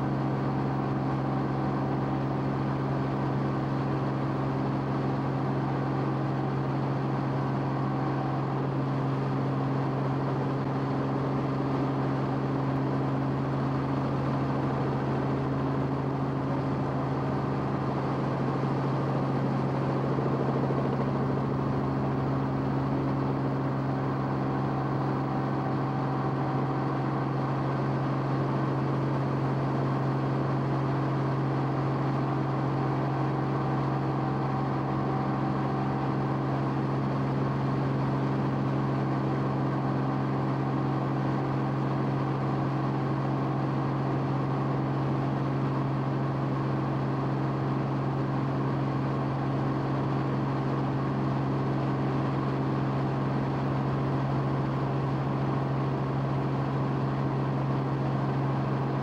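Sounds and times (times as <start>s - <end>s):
aircraft engine drone in cabin: 0.0s - 59.0s.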